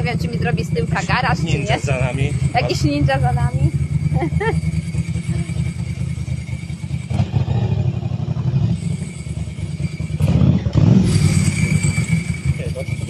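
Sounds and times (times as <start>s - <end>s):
motorcycle engine throbbing: 0.0s - 13.0s.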